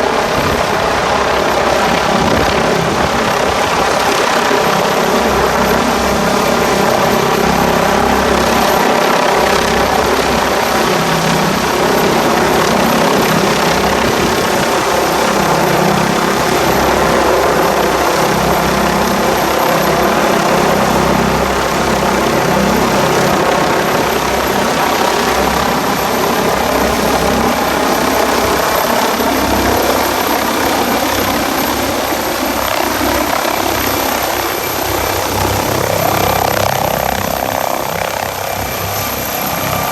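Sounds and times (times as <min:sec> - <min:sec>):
helicopter turbine and rotor running: 0:00.0 - 0:39.9.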